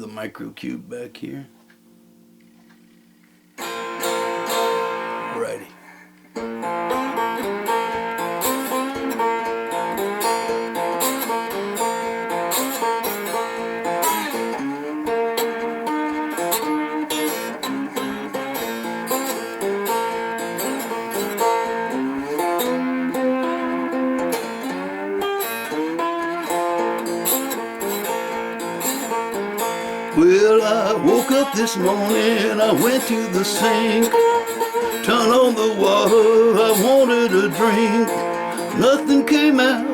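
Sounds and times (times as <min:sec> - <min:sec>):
amplified banjo playing blues: 0:03.6 - 0:39.9.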